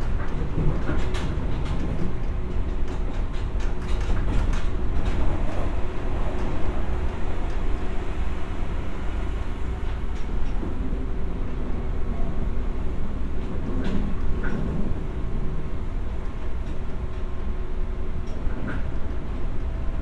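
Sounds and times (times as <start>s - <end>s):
train rumble from inside: 0.0s - 20.0s.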